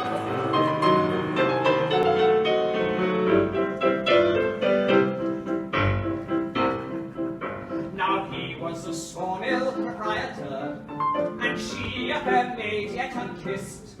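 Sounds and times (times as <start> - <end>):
solo piano playing: 0.0 - 13.4.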